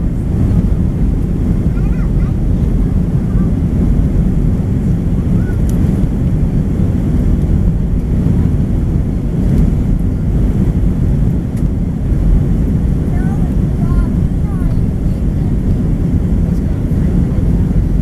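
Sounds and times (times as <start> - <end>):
airliner engine rumble in cabin: 0.0 - 18.0.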